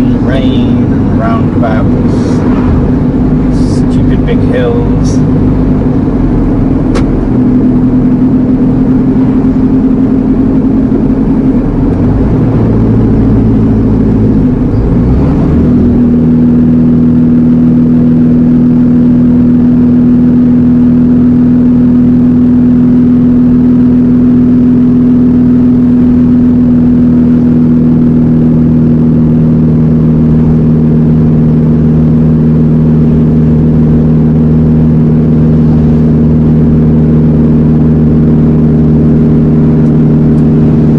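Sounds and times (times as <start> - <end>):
lorry engine droning: 0.0 - 40.9.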